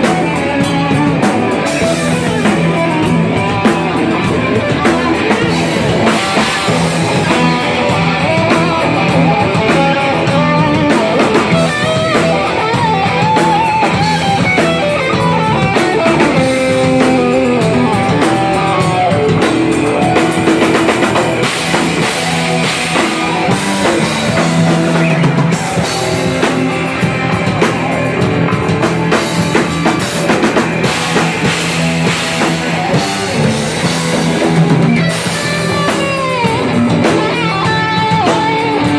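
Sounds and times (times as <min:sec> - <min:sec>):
electric guitar lead line bending: 0:00.0 - 0:38.9
live rock band playing: 0:00.0 - 0:38.9.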